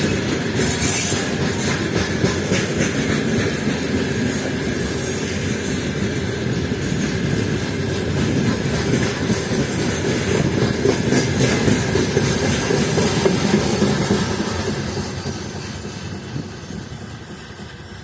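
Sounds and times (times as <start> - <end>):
train wheels clattering over rails: 0.0 - 18.0.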